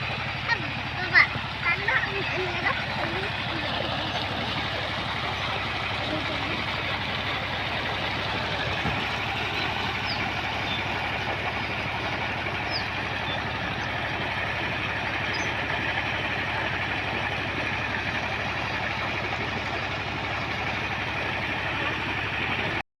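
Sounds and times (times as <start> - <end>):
digging machine engine running: 0.0 - 22.8.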